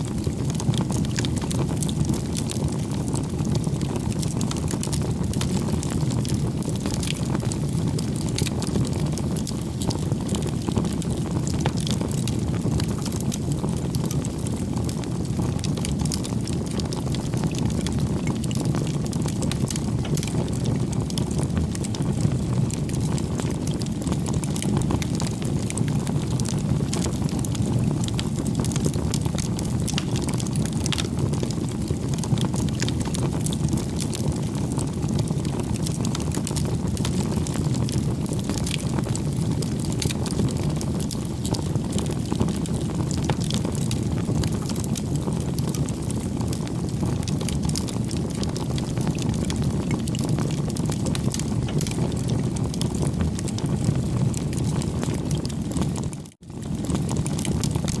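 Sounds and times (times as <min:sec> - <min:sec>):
fire crackling and popping: 0:00.0 - 0:58.0
rumble of fire flames: 0:00.0 - 0:58.0.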